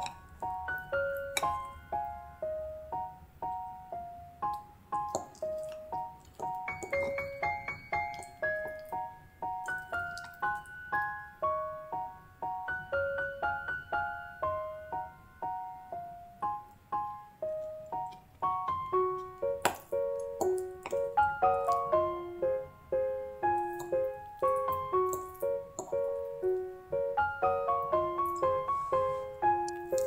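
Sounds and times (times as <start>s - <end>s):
gentle keyboard melody: 0.0s - 30.0s.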